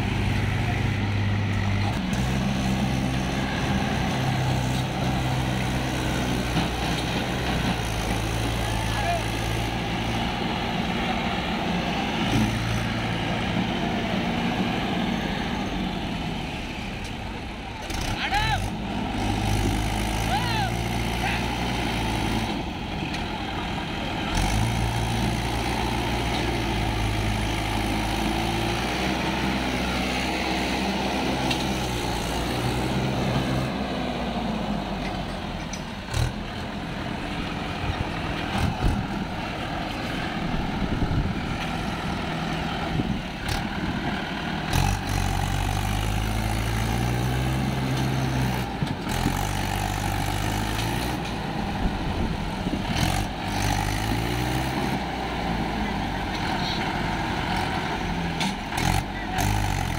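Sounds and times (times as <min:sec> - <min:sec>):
tractor diesel engine revving: 0:00.0 - 0:59.9.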